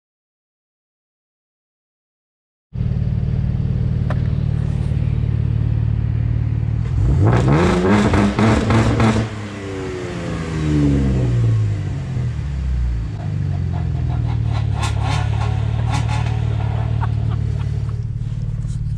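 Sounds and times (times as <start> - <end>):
car engine idling and revving: 2.8 - 18.9.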